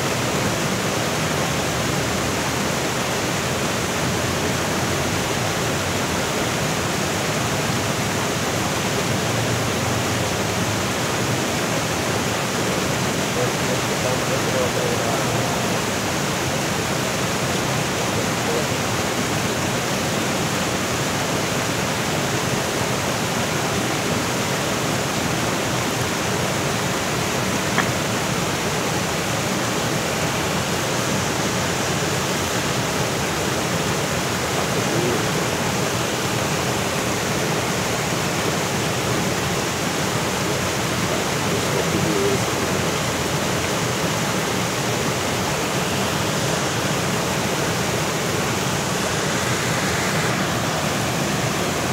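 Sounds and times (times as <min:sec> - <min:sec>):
water rushing over waterfall: 0:00.0 - 0:51.9.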